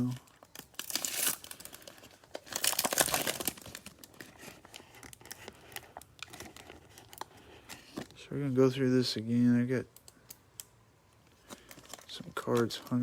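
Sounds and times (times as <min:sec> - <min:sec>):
cellophane wrapper crinkling and tearing: 0:00.0 - 0:08.2, 0:09.9 - 0:13.0.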